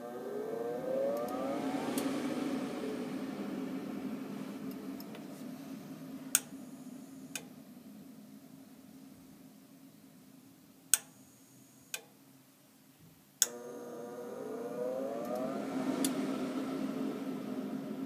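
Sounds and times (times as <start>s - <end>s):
inducer motor whine: 0.0s - 10.4s, 13.5s - 18.0s.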